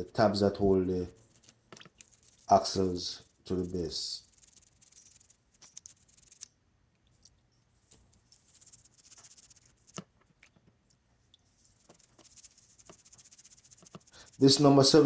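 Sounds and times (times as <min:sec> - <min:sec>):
toothbrush scrubbing in water: 0:00.0 - 0:06.5, 0:08.2 - 0:10.6, 0:11.2 - 0:15.0.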